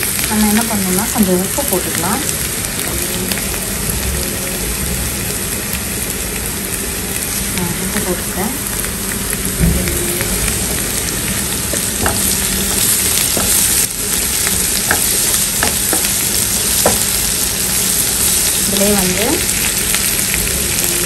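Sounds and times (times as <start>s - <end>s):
onions sizzling in oil: 0.0s - 21.0s.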